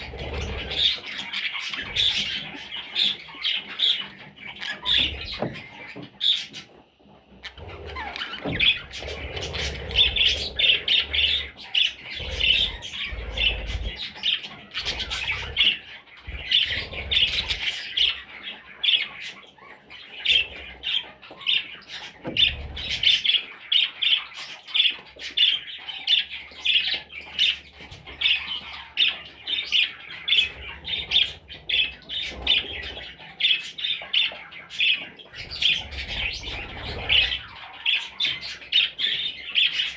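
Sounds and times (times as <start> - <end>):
budgerigar chicks squawking: 0.0 - 39.9.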